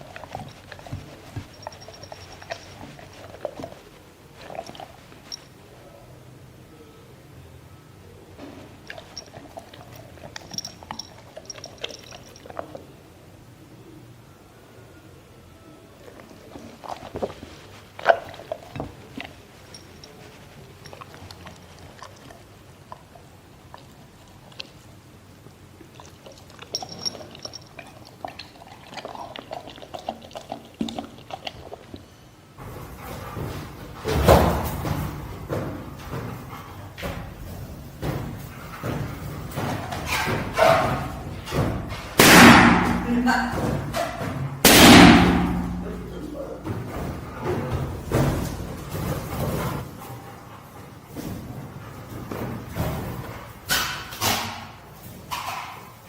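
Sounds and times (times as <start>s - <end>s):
dog chewing food: 0.0s - 5.6s, 8.3s - 13.0s, 16.0s - 56.0s.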